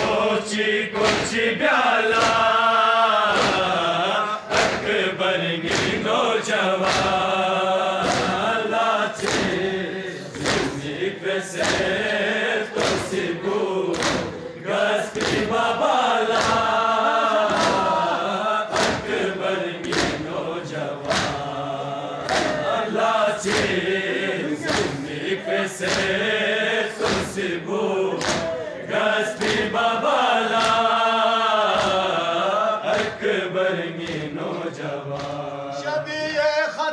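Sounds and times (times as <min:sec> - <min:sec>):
men chanting in unison: 0:00.0 - 0:36.9.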